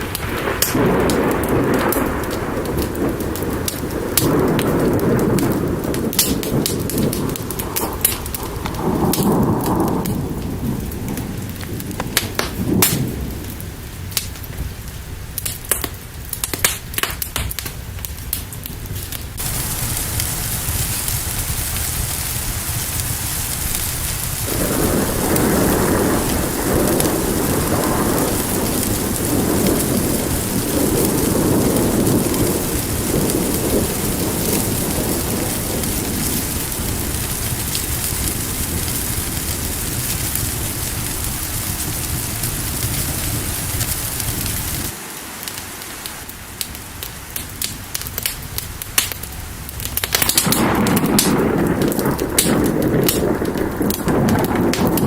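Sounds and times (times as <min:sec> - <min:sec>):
rolling thunder: 0:00.0 - 0:45.0, 0:46.2 - 0:55.0
fire crackling: 0:00.0 - 0:55.0
rain hiss: 0:00.0 - 0:55.0.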